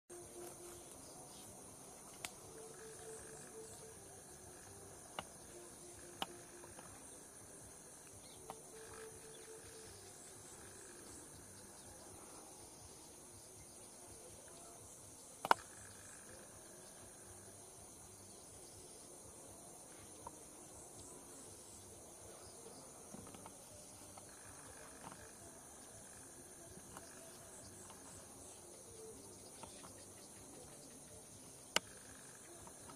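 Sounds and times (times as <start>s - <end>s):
high-pitched insect chorus: 0.1s - 32.9s
low steady note: 0.1s - 32.9s.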